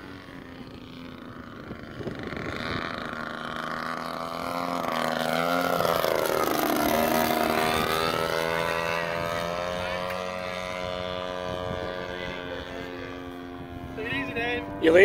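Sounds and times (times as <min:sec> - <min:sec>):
model airplane engine passing: 0:00.0 - 0:15.0.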